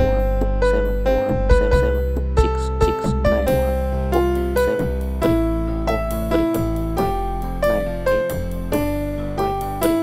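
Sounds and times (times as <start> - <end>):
steady low bass: 0.0 - 9.5
keyboard melody: 0.0 - 10.0.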